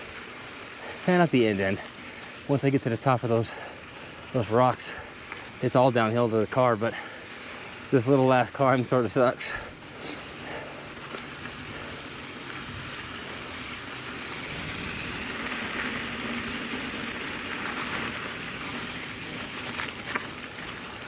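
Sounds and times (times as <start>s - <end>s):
bike tyres crunching on gravel: 0.0s - 21.0s.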